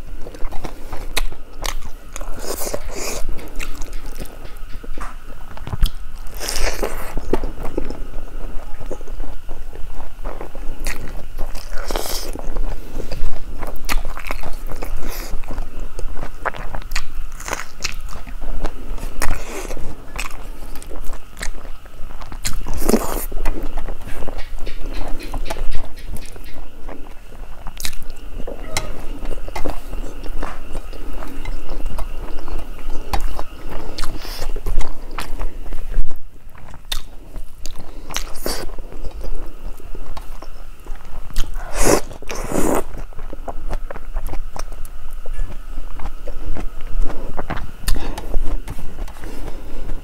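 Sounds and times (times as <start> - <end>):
close chewing and biting: 0.0 - 50.0.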